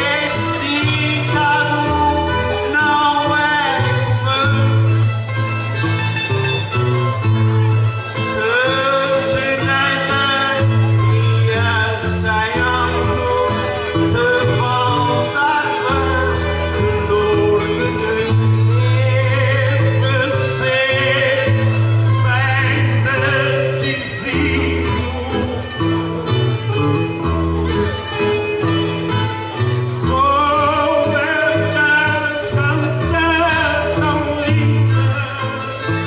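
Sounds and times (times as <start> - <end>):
man singing: 0.0 - 36.0
plucked string instruments: 0.0 - 36.0.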